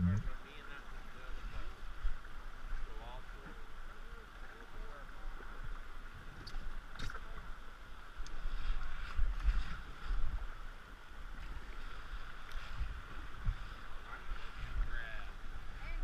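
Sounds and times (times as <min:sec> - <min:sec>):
paddle strokes splashing: 0:00.0 - 0:16.0
rushing river water: 0:00.0 - 0:16.0.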